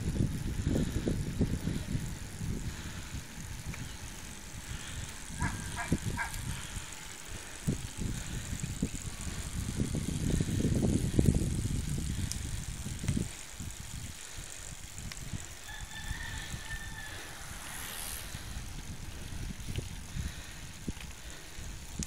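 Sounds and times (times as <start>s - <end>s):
vehicle rumble: 0.0s - 22.0s
wind buffeting: 0.0s - 22.0s.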